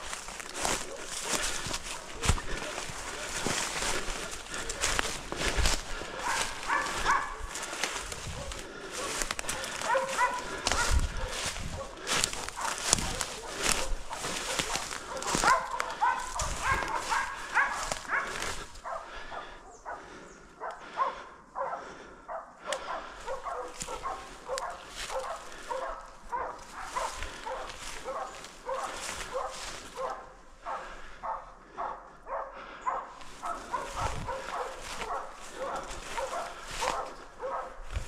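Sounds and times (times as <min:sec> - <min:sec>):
dogs barking: 0:00.0 - 0:38.0.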